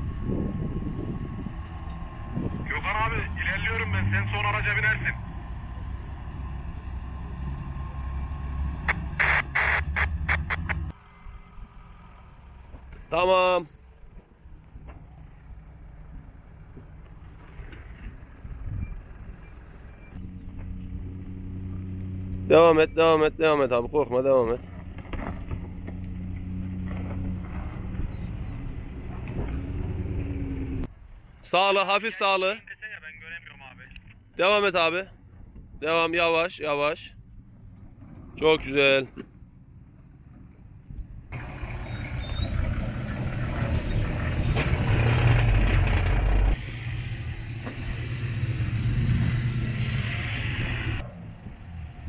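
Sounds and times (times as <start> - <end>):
off-road engines rumbling low: 0.0 - 52.0
tyre and dirt noise: 0.0 - 52.0.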